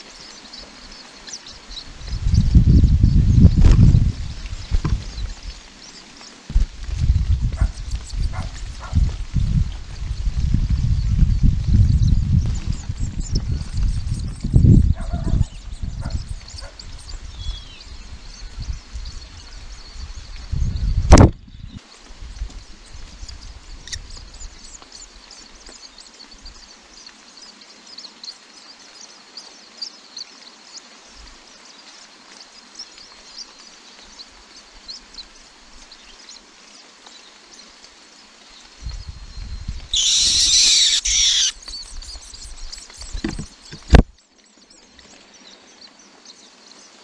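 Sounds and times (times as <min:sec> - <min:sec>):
steady rain hiss: 0:00.0 - 0:47.0.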